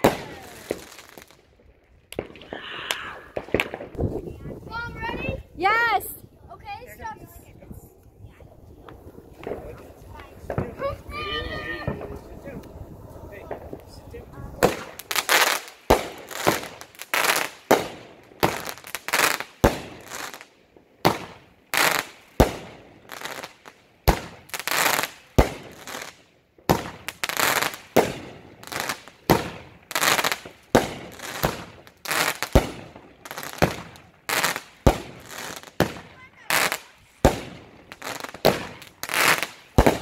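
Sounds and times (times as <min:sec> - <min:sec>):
firework bangs: 0:00.0 - 0:01.4, 0:02.0 - 0:05.3, 0:08.7 - 0:40.0
firework crackling hiss: 0:00.0 - 0:01.5, 0:02.1 - 0:04.5, 0:08.4 - 0:40.0.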